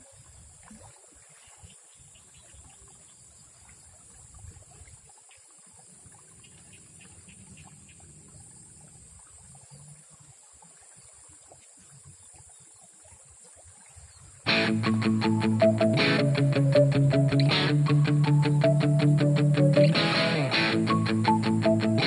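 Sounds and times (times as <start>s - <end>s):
river water trickling: 0.0s - 22.0s.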